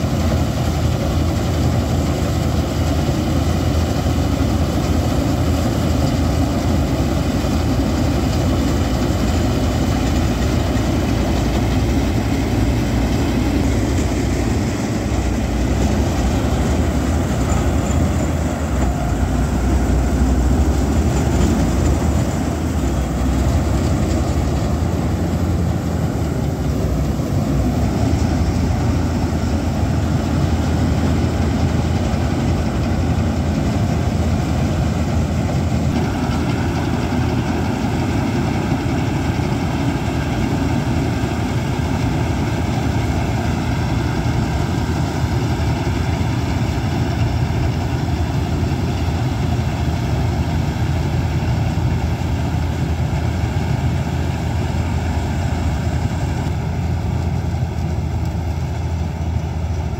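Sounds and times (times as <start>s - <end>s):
diesel engine drone: 0.0s - 59.9s
threshing machinery clatter: 0.0s - 59.9s.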